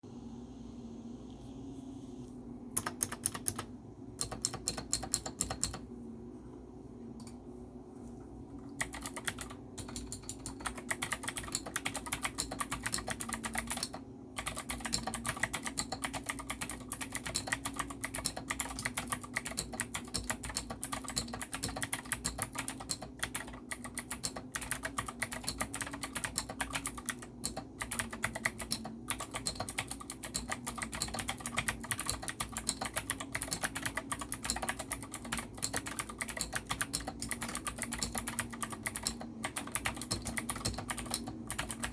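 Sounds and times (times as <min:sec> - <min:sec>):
fast typing on mechanical keyboard: 0:02.8 - 0:05.8, 0:08.8 - 0:41.9.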